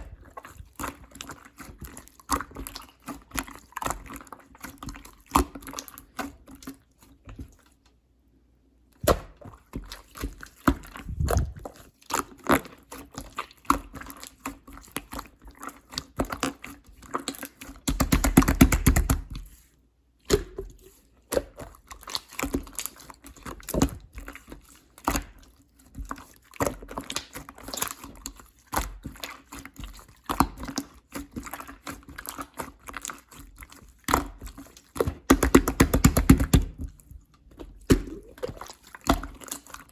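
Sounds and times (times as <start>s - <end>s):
slime squishing: 0.0s - 8.2s, 8.9s - 39.9s.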